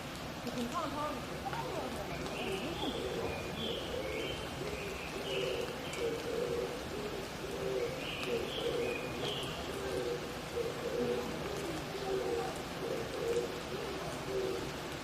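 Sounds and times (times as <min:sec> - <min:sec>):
forest background hiss: 0:00.0 - 0:15.0
dove cooing: 0:01.5 - 0:15.0.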